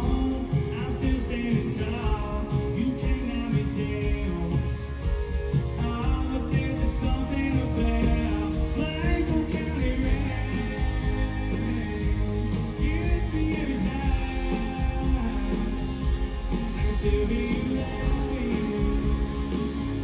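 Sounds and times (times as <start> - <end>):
country band playing live: 0.0 - 20.0
man singing: 0.0 - 20.0.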